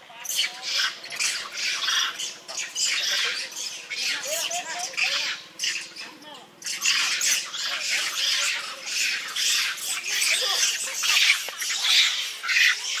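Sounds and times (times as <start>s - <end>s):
monkeys shrieking: 0.1s - 13.0s.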